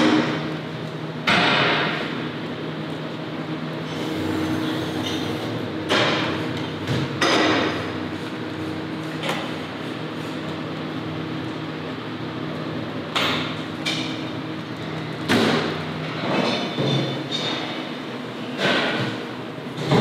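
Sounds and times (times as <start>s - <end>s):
steady machinery hum: 0.0s - 20.0s.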